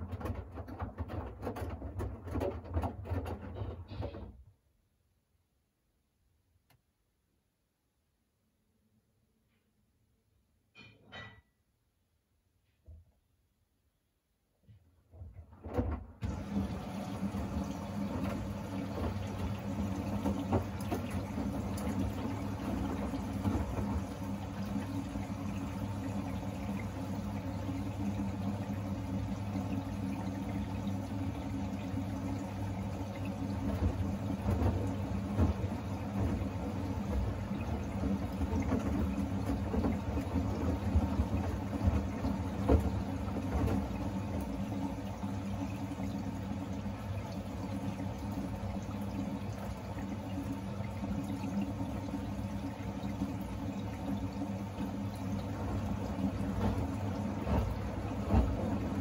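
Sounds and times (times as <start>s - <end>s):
water sloshing in drum: 0.0s - 4.3s, 15.6s - 59.0s
washing machine motor hum: 0.0s - 4.7s, 15.0s - 59.0s.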